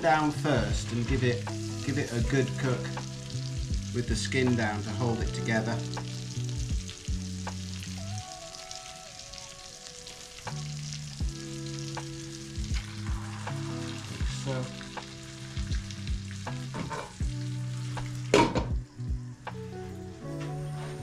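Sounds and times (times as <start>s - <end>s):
fish sizzling in butter: 0.0s - 20.2s
background music with low notes: 0.0s - 21.0s.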